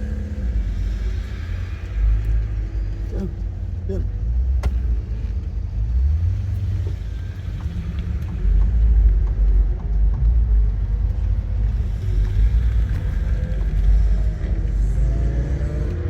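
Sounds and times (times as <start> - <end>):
car engine running: 0.0 - 16.0
road and wind noise: 0.0 - 16.0.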